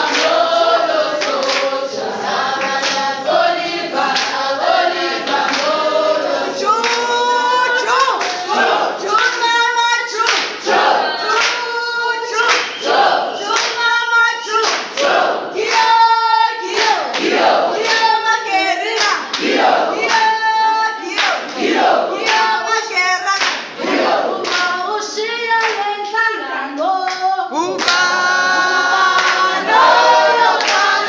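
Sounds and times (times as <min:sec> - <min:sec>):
group of people singing: 0:00.0 - 0:31.0
hand clapping to the beat: 0:00.0 - 0:31.0.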